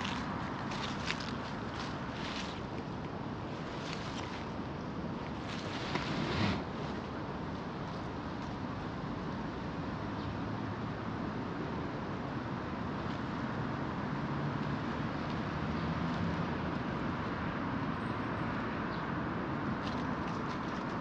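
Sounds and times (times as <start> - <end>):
road traffic hum: 0.0 - 21.0.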